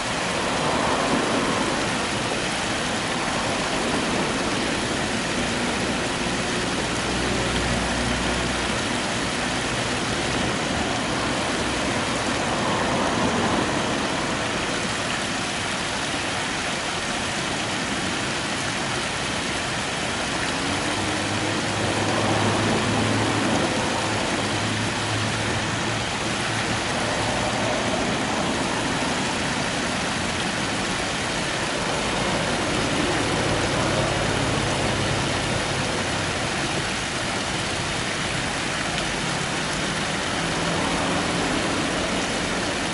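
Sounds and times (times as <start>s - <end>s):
stream flowing: 0.0s - 42.9s.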